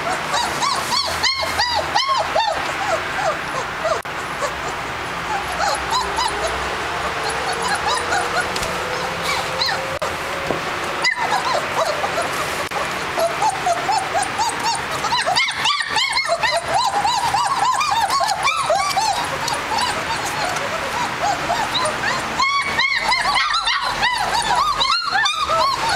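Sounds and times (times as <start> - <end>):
puppies whining and yelping: 0.0 - 25.9.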